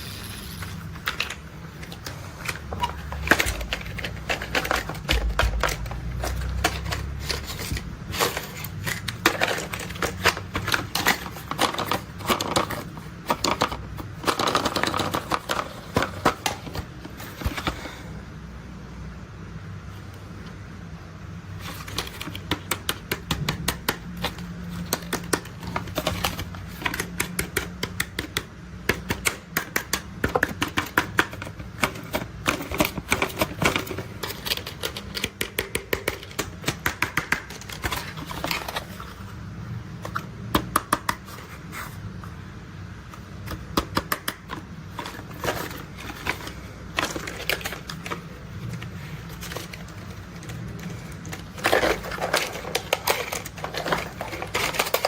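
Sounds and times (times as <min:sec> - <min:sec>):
plastic toys clicking and clattering: 0:00.0 - 0:17.9, 0:21.5 - 0:39.3, 0:43.1 - 0:55.0.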